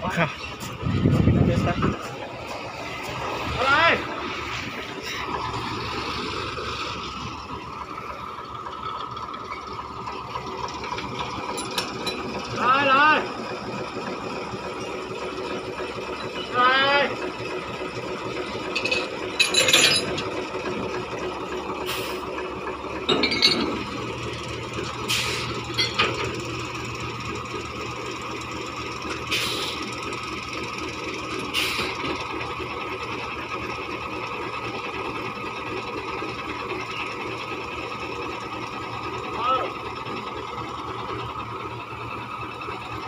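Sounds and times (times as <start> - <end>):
diesel locomotive idling: 0.0 - 43.0.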